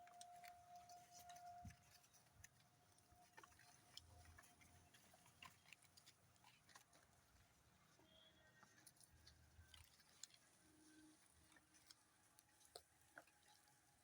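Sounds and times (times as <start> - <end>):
faint steady tone: 0.0 - 14.0
sheep tearing and chewing grass: 0.0 - 14.0.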